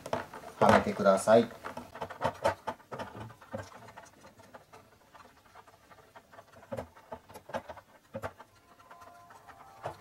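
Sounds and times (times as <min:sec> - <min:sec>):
fingers tapping and rubbing gasket: 0:00.0 - 0:10.0.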